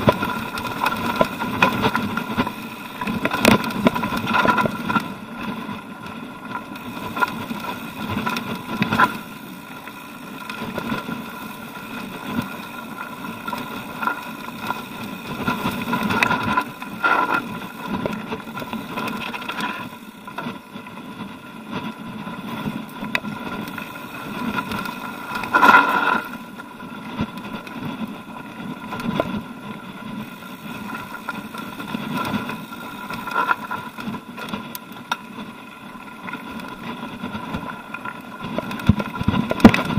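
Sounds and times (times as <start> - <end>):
bike rattling over rocks: 0.0 - 39.9.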